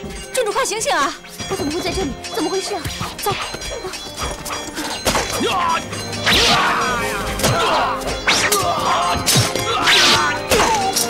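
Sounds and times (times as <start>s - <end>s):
action music: 0.0s - 11.0s.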